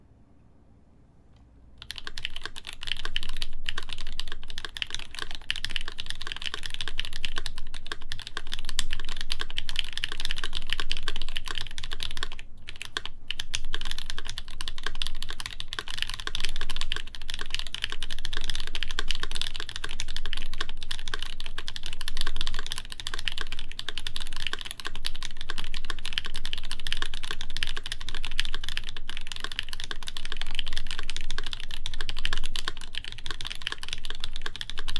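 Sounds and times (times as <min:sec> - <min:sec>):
fast typing on mechanical keyboard: 0:01.8 - 0:34.9.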